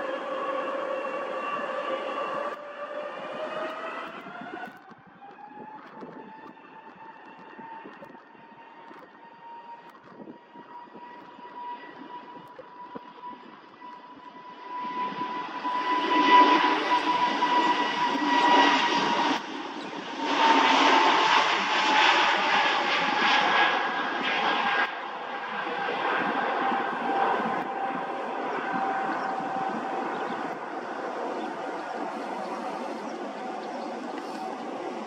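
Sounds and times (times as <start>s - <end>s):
jet engine whine: 0.0s - 35.0s
loud jet engine noise: 0.0s - 35.0s.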